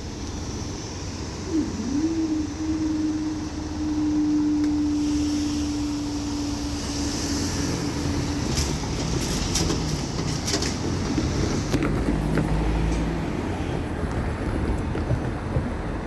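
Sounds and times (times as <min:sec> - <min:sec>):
train passing rumble: 0:00.0 - 0:16.0.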